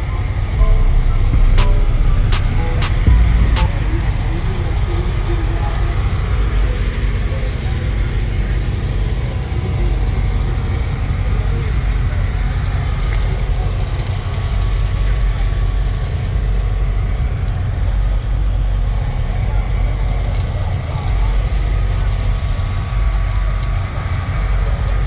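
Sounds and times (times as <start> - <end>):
car engine rumble: 0.0 - 25.0
faint voices: 0.0 - 25.0.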